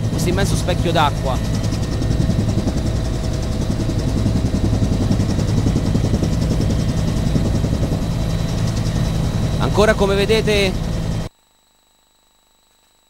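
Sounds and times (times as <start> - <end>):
helicopter engine and rotor drone: 0.0 - 11.3.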